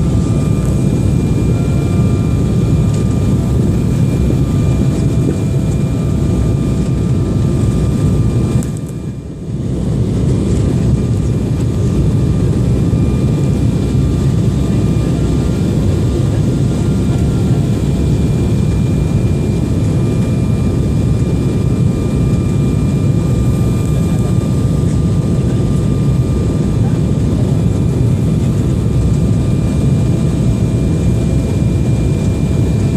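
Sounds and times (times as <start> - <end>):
airliner engine rumble: 0.0 - 32.9.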